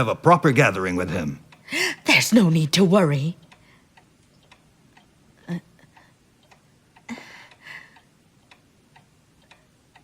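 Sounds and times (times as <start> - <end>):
clock ticking: 0.0 - 10.0.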